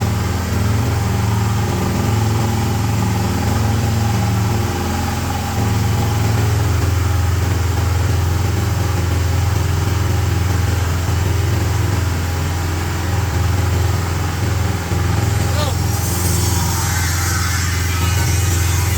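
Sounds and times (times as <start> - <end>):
mixer machine motor drone: 0.0 - 18.9.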